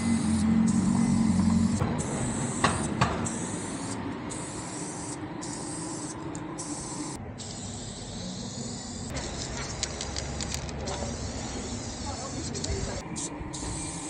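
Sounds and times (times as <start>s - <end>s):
spray paint can hissing: 0.0s - 14.0s.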